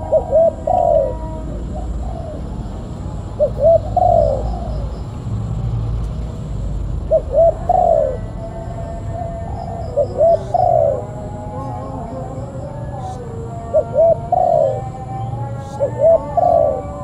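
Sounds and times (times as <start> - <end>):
dove cooing: 0.0 - 5.2, 7.0 - 17.0.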